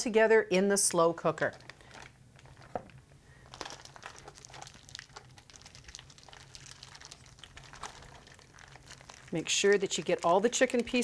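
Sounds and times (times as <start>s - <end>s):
plastic bag crinkling: 1.4s - 11.0s.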